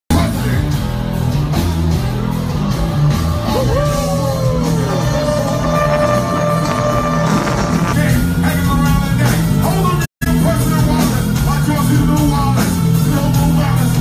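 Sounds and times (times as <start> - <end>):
live rock band playing loud: 0.1 - 14.0.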